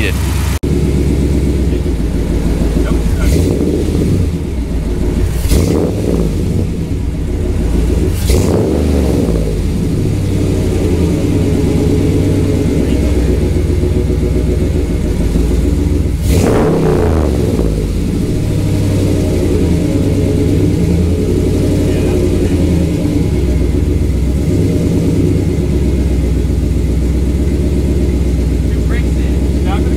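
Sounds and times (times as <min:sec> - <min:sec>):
engine idling with revs surging: 0:00.0 - 0:29.9.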